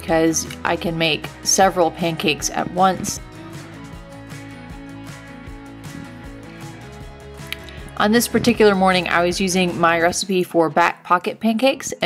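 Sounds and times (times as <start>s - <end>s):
background music with held tones: 0.0s - 12.0s.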